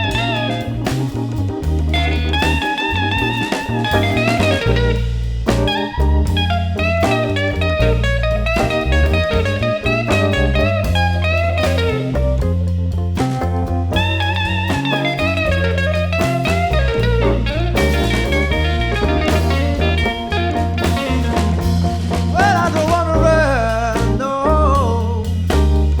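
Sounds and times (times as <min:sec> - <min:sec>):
lead guitar solo: 0:00.0 - 0:24.3
drum kit: 0:00.0 - 0:26.0
walking bass line: 0:00.0 - 0:26.0.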